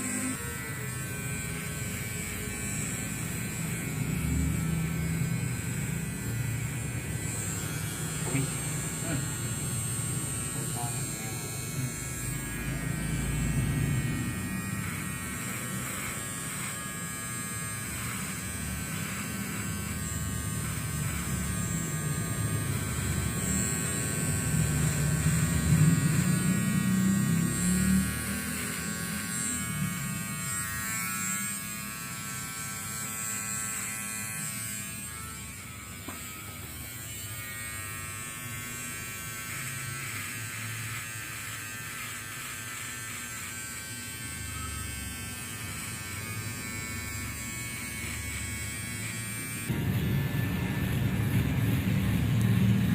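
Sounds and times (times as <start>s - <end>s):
electric hair clipper buzzing: 0.0s - 52.9s.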